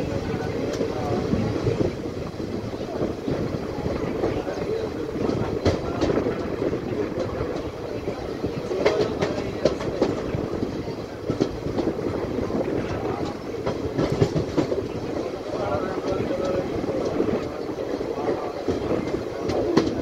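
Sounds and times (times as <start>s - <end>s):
train wheels rumbling on track: 0.0s - 20.0s
wheels clacking over rail joints: 0.0s - 20.0s.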